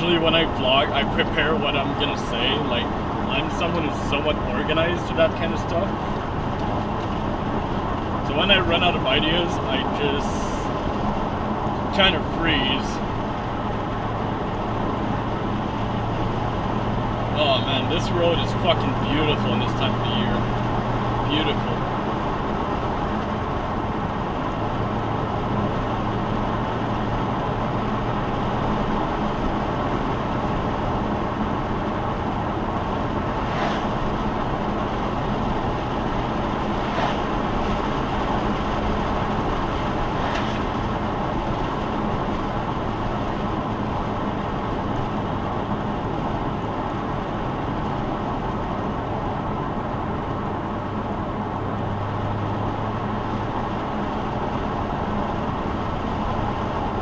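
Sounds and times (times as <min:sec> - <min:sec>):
low engine drone: 0:00.0 - 0:57.0
tyre and road noise: 0:00.0 - 0:57.0.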